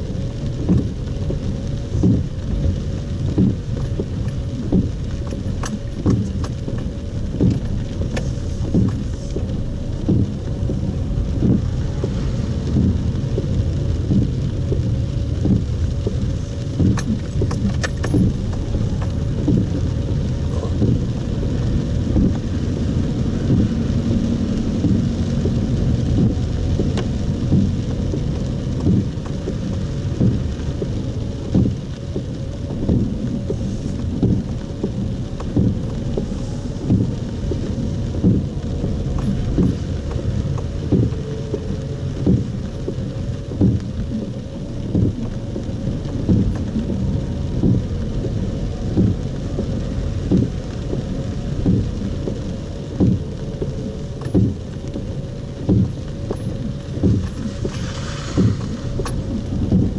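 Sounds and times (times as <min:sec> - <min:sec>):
car interior rumble in rain: 0:00.0 - 0:59.9
windscreen wipers sweeping: 0:00.0 - 0:59.9.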